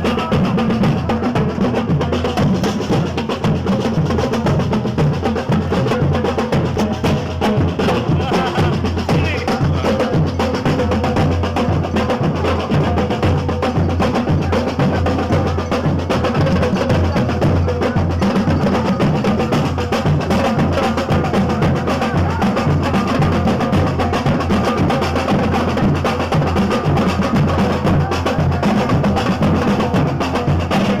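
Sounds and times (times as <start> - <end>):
drums and percussion: 0.0 - 31.0.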